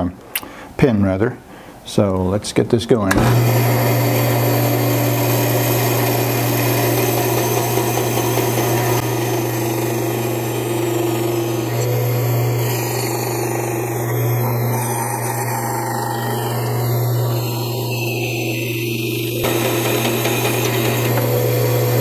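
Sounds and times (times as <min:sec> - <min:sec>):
bandsaw cutting metal: 0:03.1 - 0:22.0.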